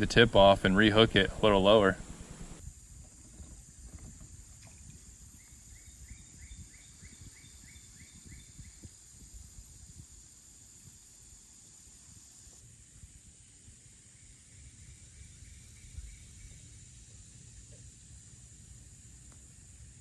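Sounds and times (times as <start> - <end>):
high-pitched insect drone: 2.6 - 19.9.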